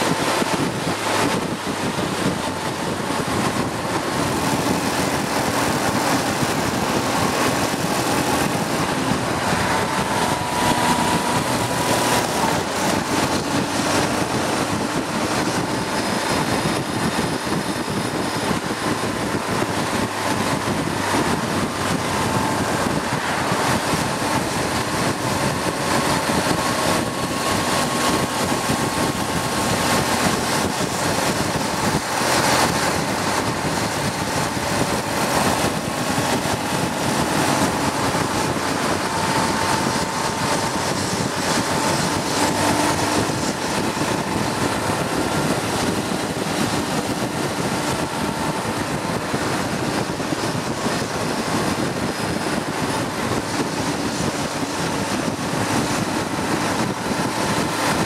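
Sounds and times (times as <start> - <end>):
road noise: 0.0 - 58.0
wind rush: 0.0 - 58.0.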